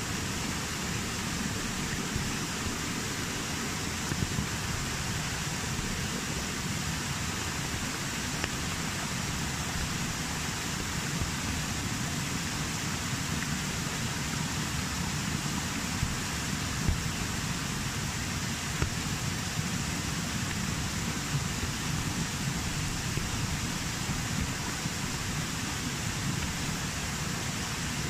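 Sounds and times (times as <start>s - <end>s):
rain rushing: 0.0s - 28.0s
waterfall splashing into pool: 0.0s - 28.0s.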